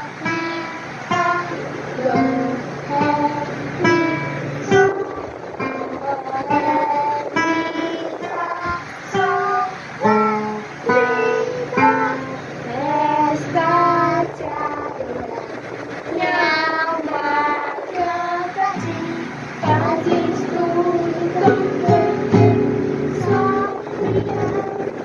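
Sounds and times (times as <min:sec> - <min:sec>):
acoustic guitar strumming: 0:00.0 - 0:25.0
girl singing: 0:00.0 - 0:25.0.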